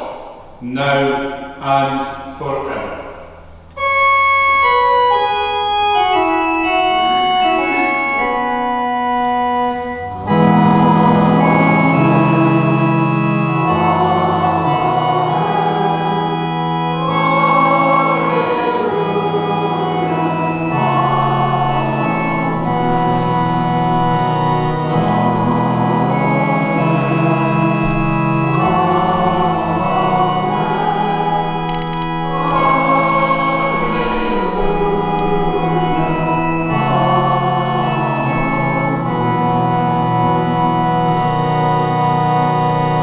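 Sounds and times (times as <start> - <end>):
church organ chords: 0.0 - 43.0.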